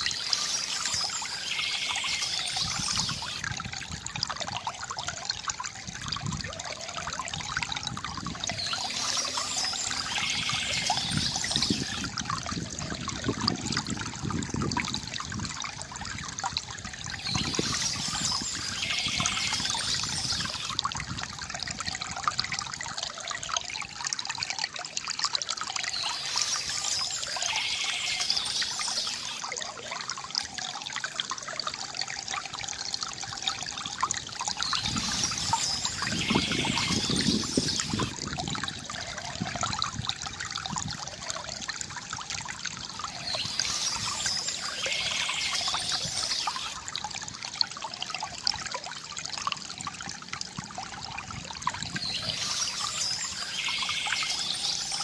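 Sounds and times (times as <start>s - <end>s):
bamboo fountain water trickling: 0.0s - 55.0s.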